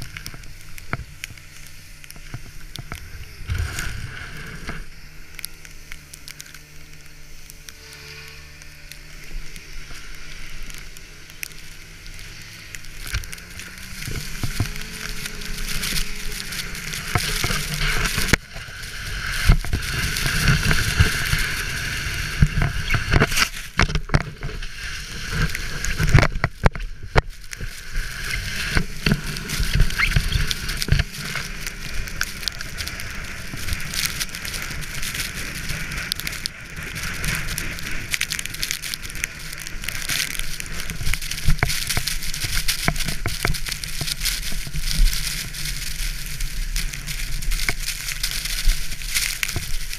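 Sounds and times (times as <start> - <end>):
sled hissing over snow: 0.0 - 23.8, 24.4 - 49.9
snowmobile engine: 0.0 - 49.9.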